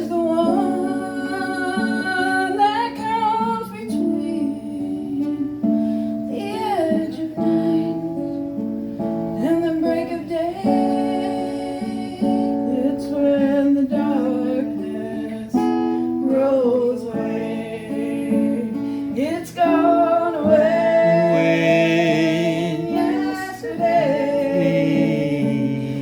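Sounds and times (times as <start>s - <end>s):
person singing: 0.0s - 5.6s, 9.4s - 26.0s
acoustic guitar strumming: 0.0s - 26.0s.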